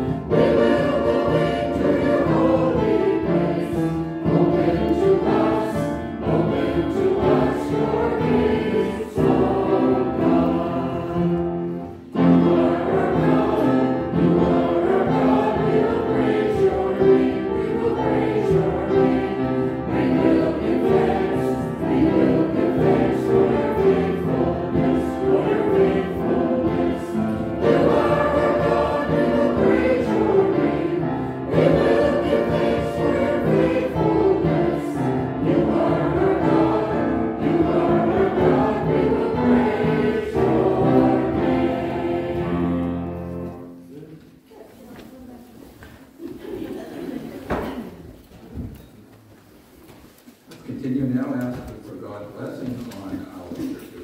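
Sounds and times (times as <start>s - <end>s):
choir and congregation singing a hymn: 0.0s - 44.2s
piano accompaniment: 0.0s - 44.5s.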